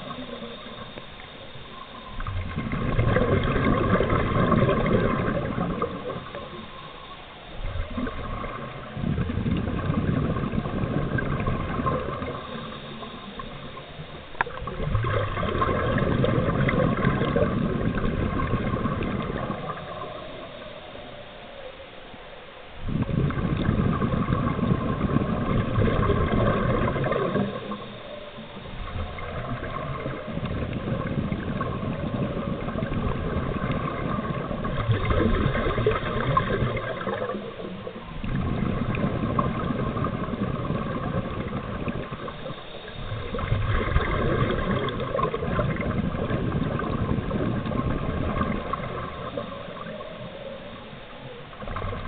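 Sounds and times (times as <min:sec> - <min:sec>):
underwater exhaust bubbles gurgling: 0:00.0 - 0:52.0.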